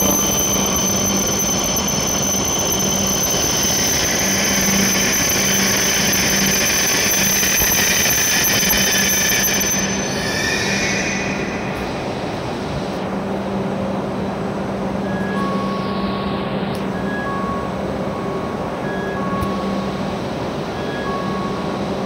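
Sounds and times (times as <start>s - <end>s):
high-pitched brake squeal: 0.0s - 12.6s, 15.0s - 20.0s, 20.6s - 22.0s
train rumble: 0.0s - 22.0s.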